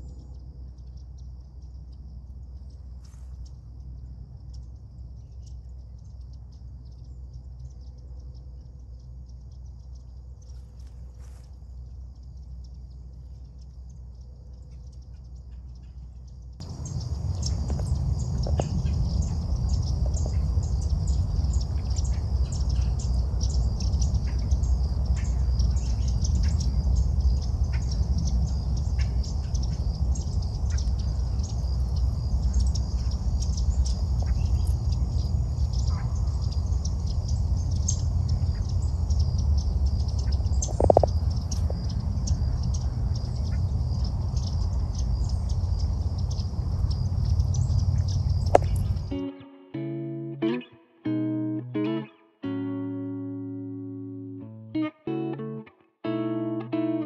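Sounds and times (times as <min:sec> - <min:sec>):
low rumbling background: 0:00.0 - 0:49.2
birds chirping: 0:00.0 - 0:57.0.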